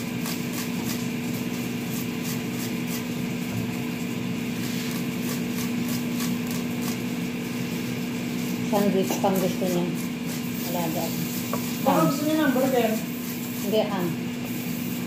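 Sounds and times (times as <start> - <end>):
cucumber rasping on grater: 0.0 - 15.0
steady mechanical hum: 0.0 - 15.0.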